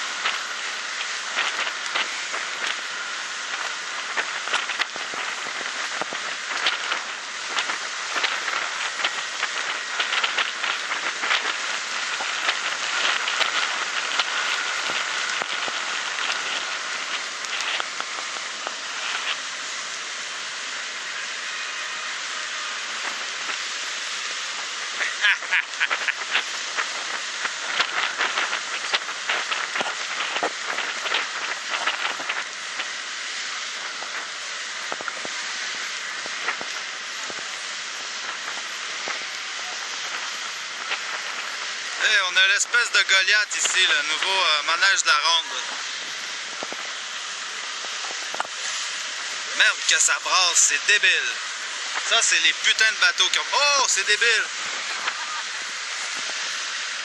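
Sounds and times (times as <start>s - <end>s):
water rushing along a hull: 0.0s - 57.0s
water splashing: 0.0s - 57.0s.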